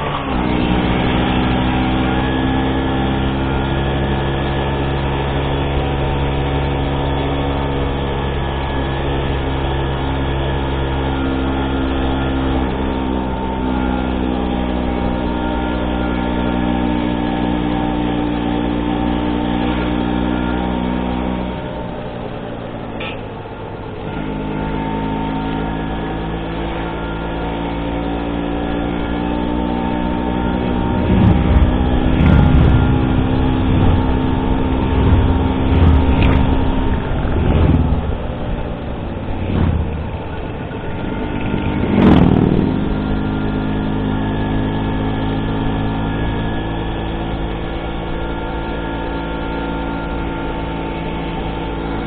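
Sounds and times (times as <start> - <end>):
scooter engine revving: 0.0 - 52.0.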